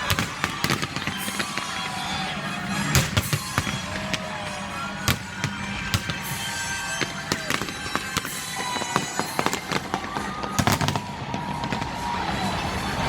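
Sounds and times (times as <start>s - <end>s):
fireworks bangs and crackling pops: 0.0s - 13.0s
whistling firework shells: 0.0s - 13.0s.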